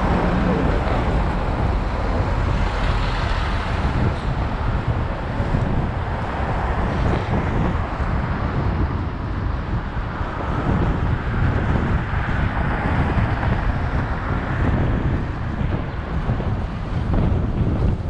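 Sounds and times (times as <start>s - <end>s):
passing street traffic: 0.0s - 18.0s
wind buffeting microphone: 0.0s - 18.0s.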